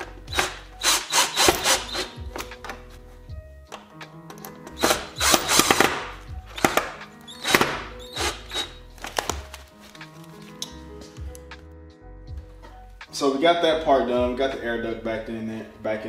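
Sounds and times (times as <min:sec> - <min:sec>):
chillhop music: 0:00.0 - 0:16.0.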